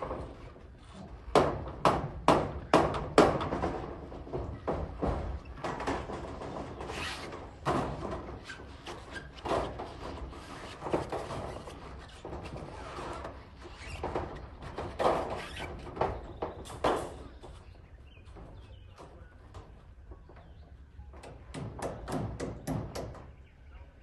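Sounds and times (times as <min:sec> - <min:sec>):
knocks and clatter: 0:00.0 - 0:17.7, 0:18.3 - 0:23.3.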